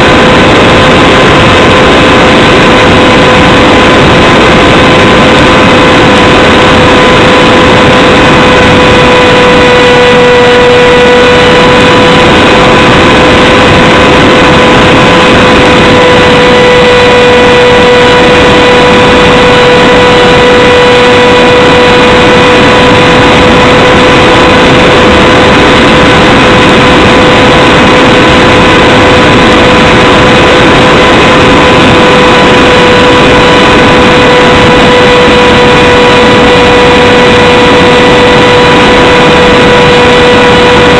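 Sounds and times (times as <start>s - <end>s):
loud rushing noise: 0.0s - 40.9s
steady high whine: 0.0s - 40.9s.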